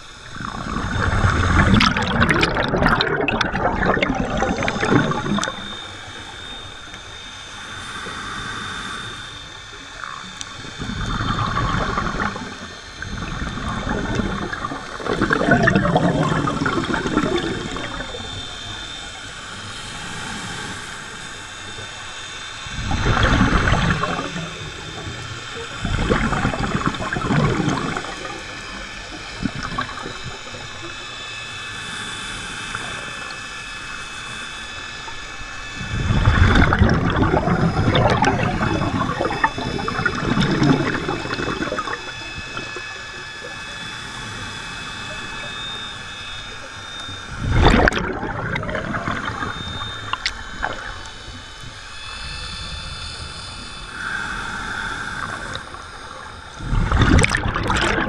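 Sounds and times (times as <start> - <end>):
regulator bubbles rushing out: 0.0 - 58.0
steady underwater hiss: 0.0 - 58.0.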